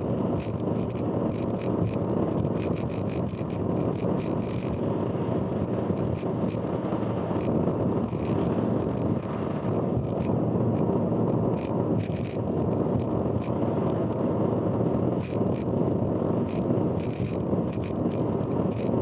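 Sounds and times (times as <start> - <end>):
sharp rattling ticks: 0.0 - 6.8, 7.4 - 14.3, 14.9 - 19.0
road and tyre noise: 0.0 - 19.0.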